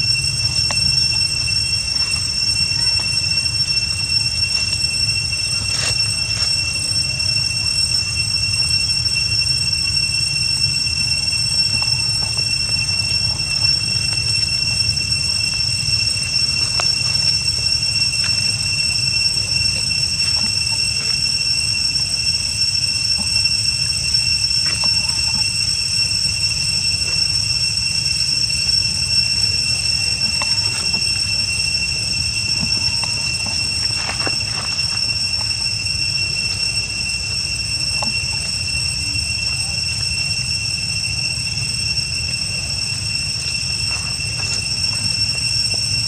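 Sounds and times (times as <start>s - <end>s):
cicadas whining: 0.0s - 46.0s.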